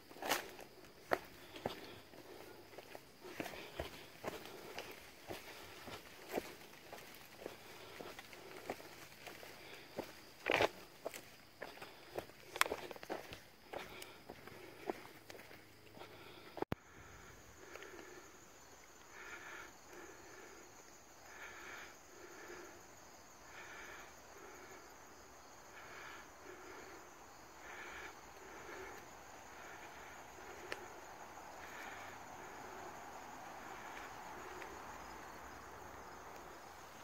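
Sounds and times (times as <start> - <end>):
insects humming: 0.0 - 37.0
short insect call: 0.0 - 37.0.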